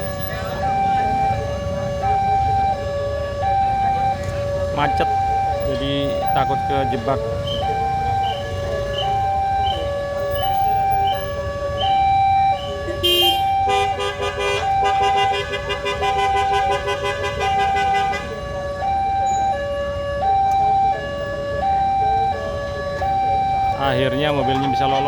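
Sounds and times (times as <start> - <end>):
two-tone warning siren: 0.0 - 25.0.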